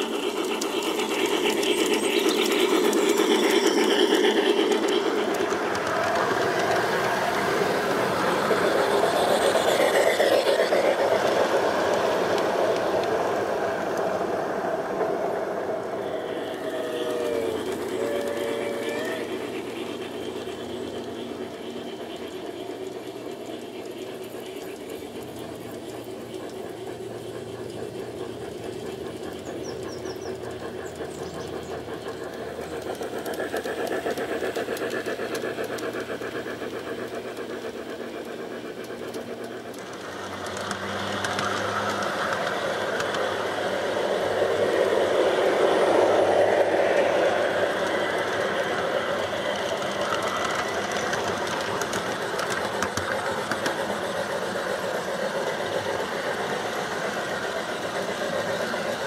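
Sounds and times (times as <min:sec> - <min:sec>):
model train motors whirring: 0:00.0 - 0:59.0
wheels rattling on rails: 0:00.0 - 0:59.0.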